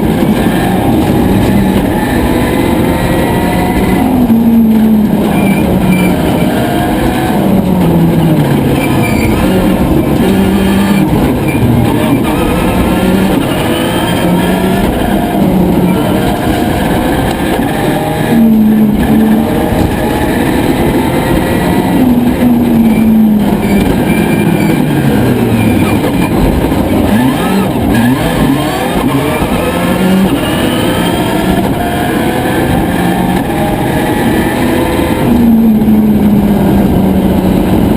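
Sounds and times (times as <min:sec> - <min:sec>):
rally car engine revving: 0:00.0 - 0:37.9.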